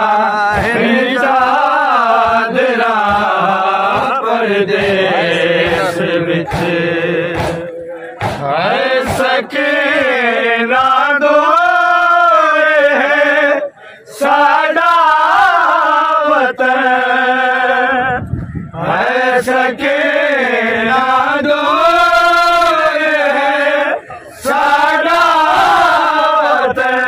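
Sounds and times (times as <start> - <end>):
men chanting a lament: 0.0 - 27.0.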